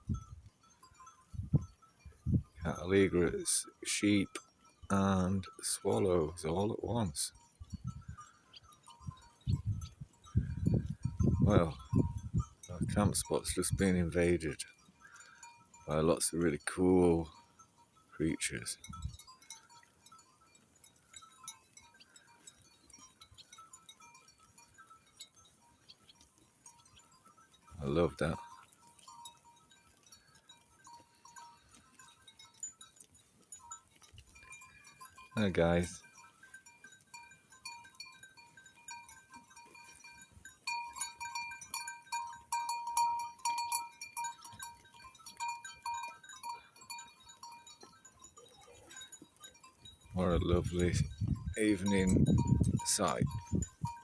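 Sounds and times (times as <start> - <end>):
soft clinks: 0.0 - 54.0.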